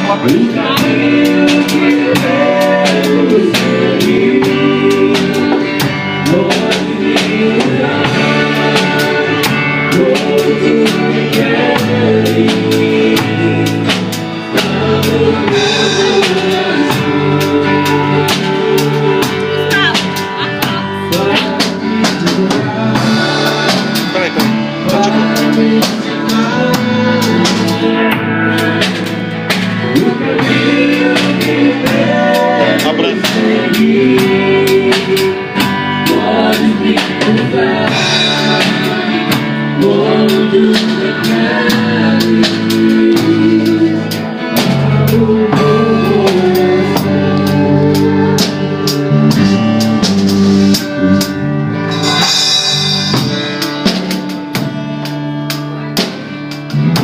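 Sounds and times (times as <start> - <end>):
band playing worship song live: 0.0 - 57.0
drum kit beat: 0.0 - 57.0.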